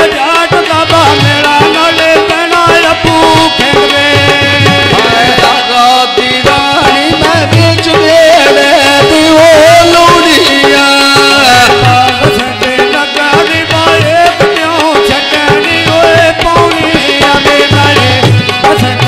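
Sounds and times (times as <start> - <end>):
hand drum beat: 0.0 - 19.0
harmonium chords: 0.0 - 19.0
man singing: 0.0 - 19.0.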